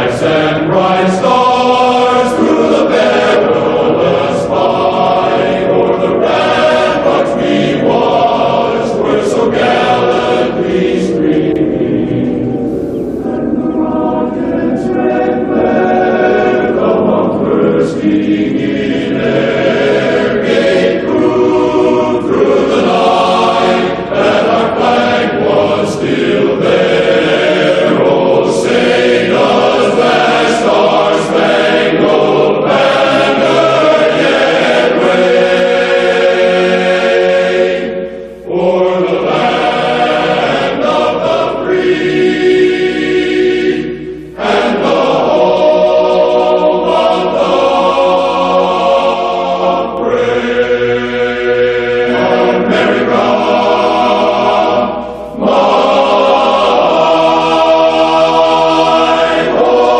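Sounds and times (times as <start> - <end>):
choir singing held chords: 0.0 - 59.9.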